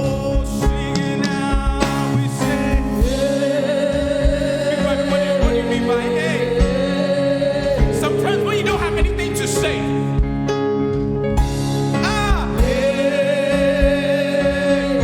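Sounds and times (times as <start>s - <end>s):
person singing with vibrato: 0.0s - 10.2s, 11.9s - 15.0s
live band with steady beat: 0.0s - 15.0s.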